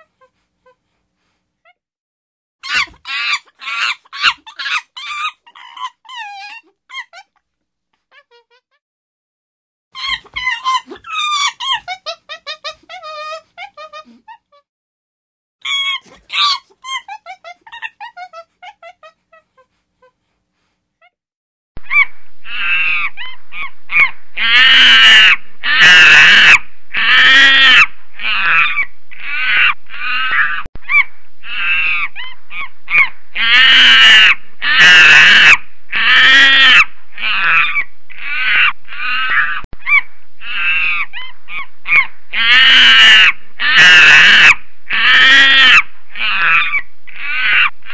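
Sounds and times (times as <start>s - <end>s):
monkey screaming: 2.6s - 7.4s, 10.0s - 14.6s, 15.6s - 19.4s, 21.8s - 47.9s.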